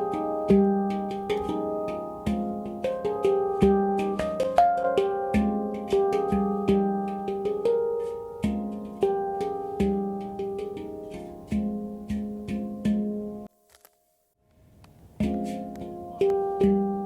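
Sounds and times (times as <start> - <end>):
handpan played by hand: 0.0 - 13.5, 15.2 - 17.0.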